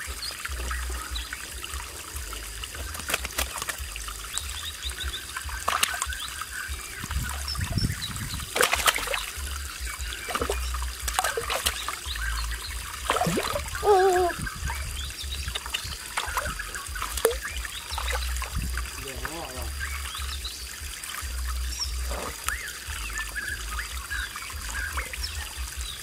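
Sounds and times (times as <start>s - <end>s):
splashes in water: 0.0s - 26.0s
stream trickling over rock: 0.0s - 26.0s.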